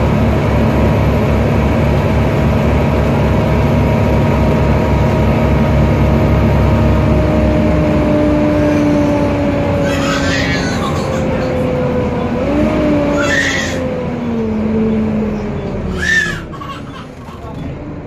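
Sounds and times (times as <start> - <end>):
cooling fan whine: 0.0 - 18.0
diesel engine rumble: 0.0 - 18.0.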